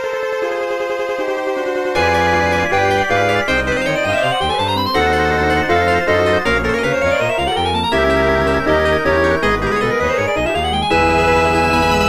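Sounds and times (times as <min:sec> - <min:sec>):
synthesized ringtone tune: 0:02.0 - 0:12.0.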